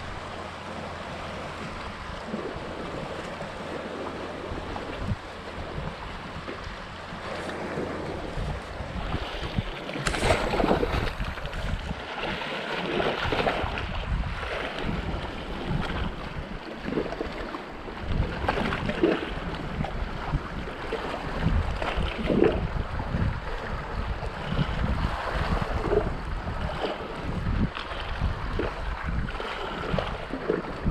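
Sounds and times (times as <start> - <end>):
waves washing against rocks: 0.0 - 30.9
wind buffeting microphone: 0.0 - 30.9.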